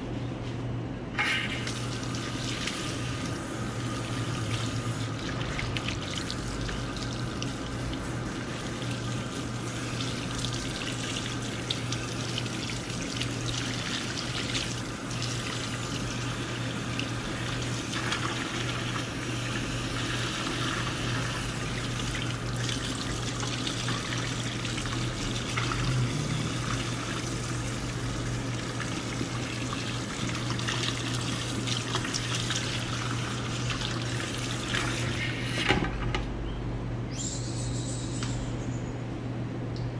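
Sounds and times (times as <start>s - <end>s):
water running from faucet: 1.4s - 35.6s.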